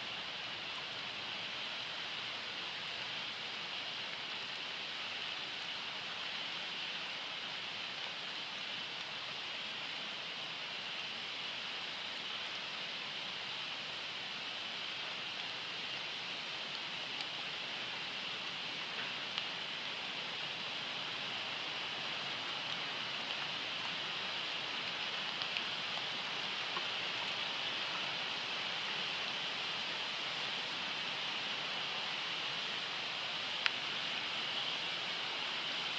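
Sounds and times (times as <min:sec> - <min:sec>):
heavy rain falling: 0:00.1 - 0:35.9.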